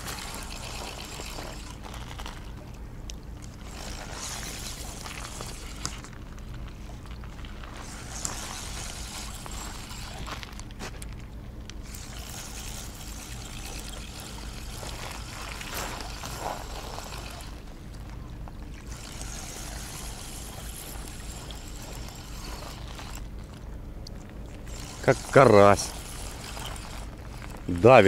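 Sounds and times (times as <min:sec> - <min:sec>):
fishing reel whirring: 0:00.0 - 0:02.6, 0:03.5 - 0:06.4, 0:07.6 - 0:10.8, 0:11.8 - 0:18.0, 0:18.8 - 0:23.7, 0:24.4 - 0:28.0
faint low hum: 0:00.0 - 0:28.0.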